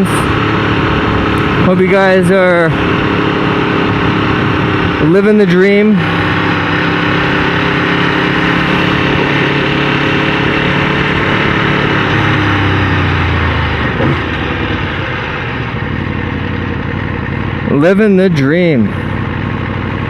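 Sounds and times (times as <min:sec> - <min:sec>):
motorcycle engine idling: 0:00.0 - 0:07.0, 0:07.6 - 0:20.0
deeper engine note: 0:00.0 - 0:20.0.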